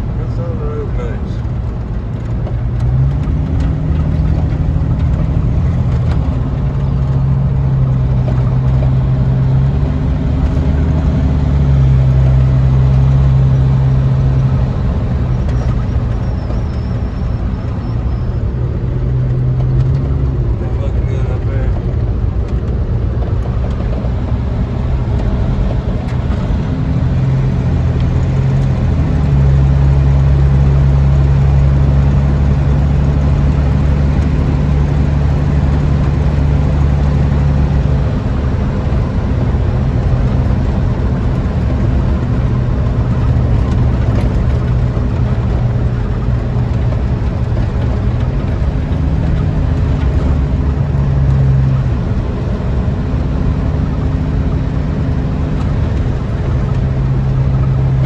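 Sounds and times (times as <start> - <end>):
road noise: 0.0 - 58.0
truck engine running: 0.0 - 58.0.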